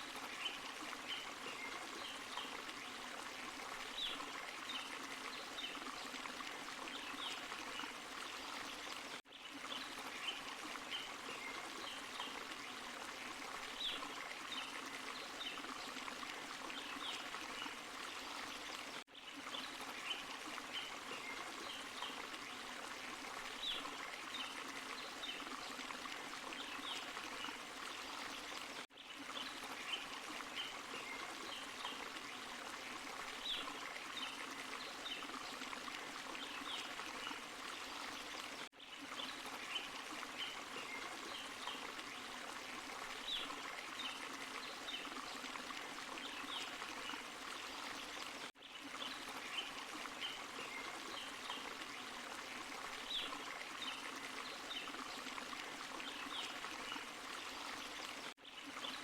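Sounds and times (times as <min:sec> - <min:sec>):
splashing trickles: 0:00.0 - 0:59.0.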